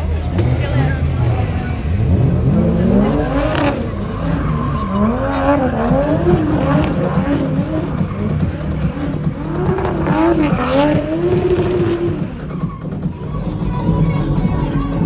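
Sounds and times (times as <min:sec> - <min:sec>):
tyres squealing: 0:00.0 - 0:14.5
car engine revving hard: 0:00.0 - 0:15.0.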